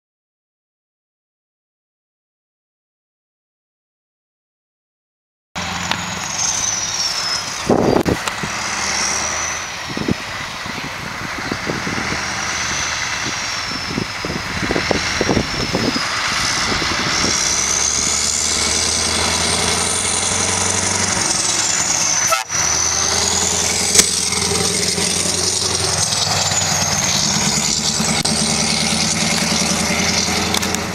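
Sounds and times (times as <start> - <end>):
diesel truck engine running: 5.6 - 30.9.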